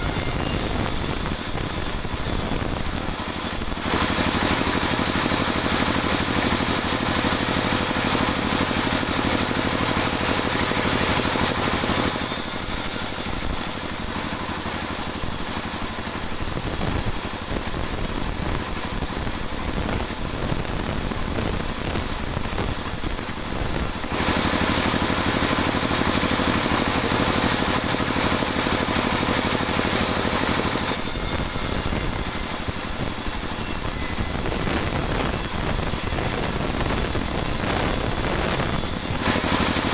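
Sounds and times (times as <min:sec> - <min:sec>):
band saw ripping wood: 0:00.0 - 0:07.1, 0:11.5 - 0:28.0, 0:30.6 - 0:39.9.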